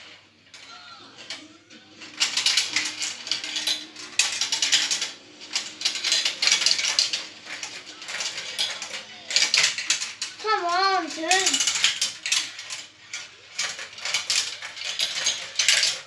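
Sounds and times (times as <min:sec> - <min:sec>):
marbles rattling down plastic tracks: 0:00.5 - 0:16.0.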